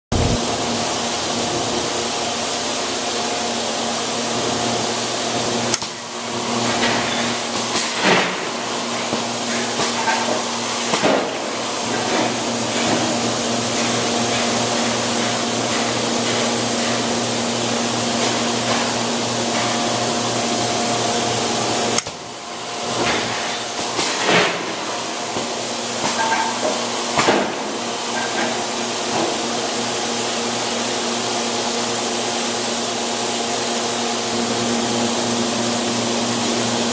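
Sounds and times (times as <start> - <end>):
industrial machinery humming: 0.1 - 36.9.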